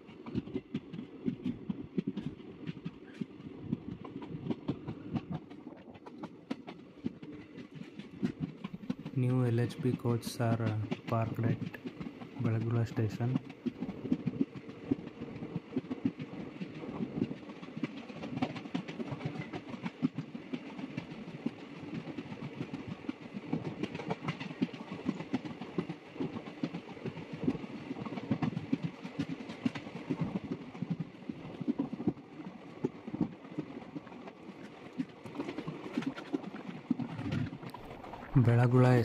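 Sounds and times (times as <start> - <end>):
clickety-clack of wheels: 0.0 - 38.2
train wheels rumbling: 0.0 - 39.0.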